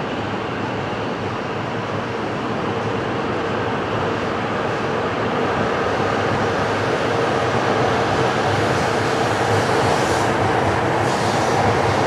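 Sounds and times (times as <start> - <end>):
train whine: 0.0 - 12.0.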